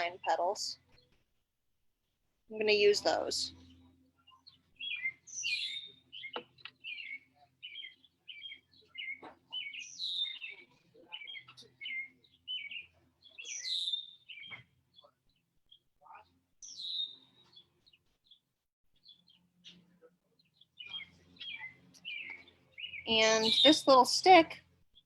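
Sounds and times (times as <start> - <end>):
songbirds chirping: 0.0 - 1.2, 2.5 - 25.0.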